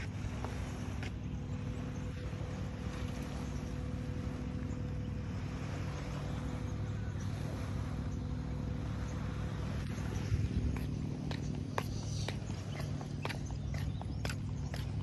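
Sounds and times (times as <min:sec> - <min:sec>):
faint constant tone: 0:00.0 - 0:15.0
low engine hum: 0:00.0 - 0:15.0.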